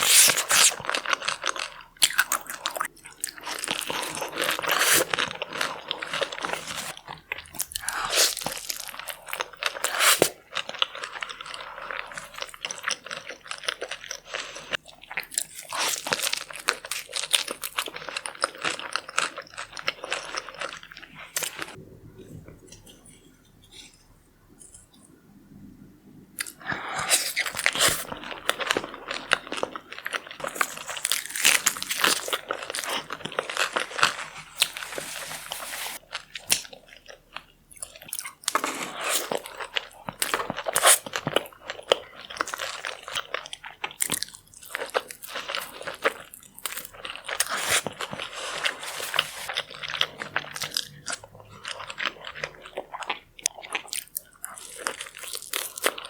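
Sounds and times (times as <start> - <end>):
person crunching while chewing: 0.0 - 21.8, 26.4 - 56.0.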